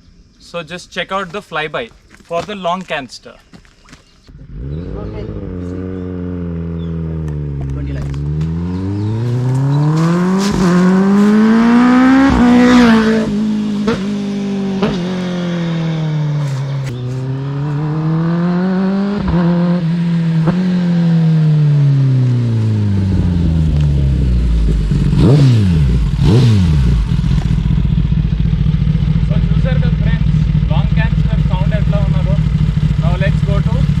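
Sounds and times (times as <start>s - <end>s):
motorcycle engine accelerating: 4.3s - 34.0s.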